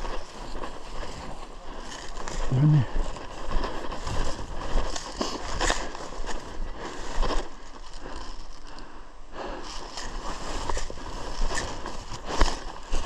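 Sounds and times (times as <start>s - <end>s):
rustling and scraping of brush: 0.0s - 8.9s, 9.5s - 13.0s.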